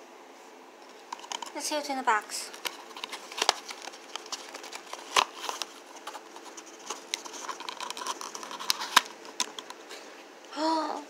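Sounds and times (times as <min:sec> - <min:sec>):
candy box wrapping rustling: 0:00.8 - 0:09.9.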